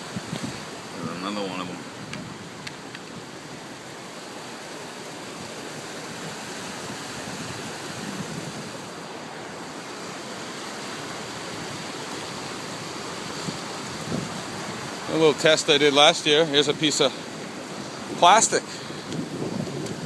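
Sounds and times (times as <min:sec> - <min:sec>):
water rushing through dam: 0:00.0 - 0:20.0.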